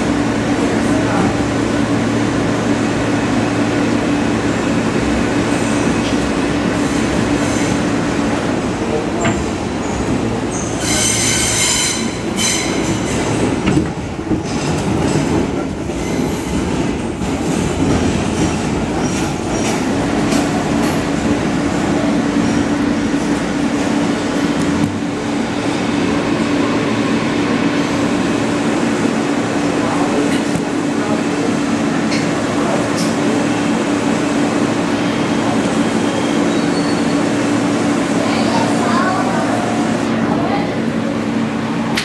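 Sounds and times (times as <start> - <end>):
subway wheels rumbling on rail: 0.0 - 42.0.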